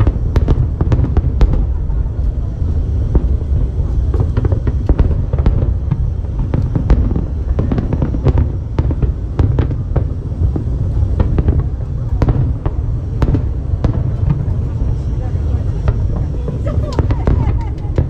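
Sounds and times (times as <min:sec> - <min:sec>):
deep rumble: 0:00.0 - 0:18.0
fireworks bangs and crackling: 0:00.0 - 0:18.0.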